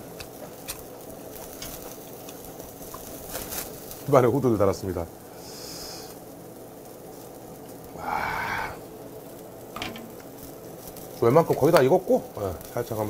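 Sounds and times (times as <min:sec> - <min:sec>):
skewers sizzling on a grill: 0:00.0 - 0:13.0
breathy hiss: 0:01.2 - 0:11.4, 0:12.0 - 0:13.0.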